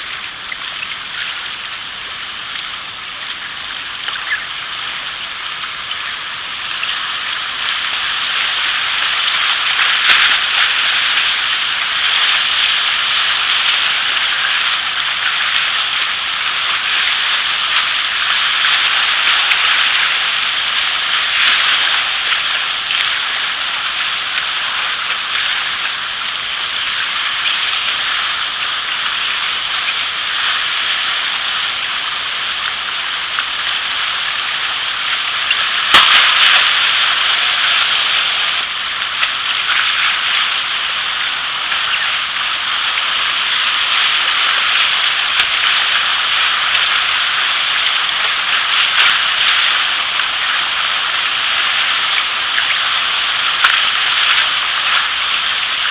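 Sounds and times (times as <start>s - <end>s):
whitewater rushing and splashing: 4.6s - 55.9s.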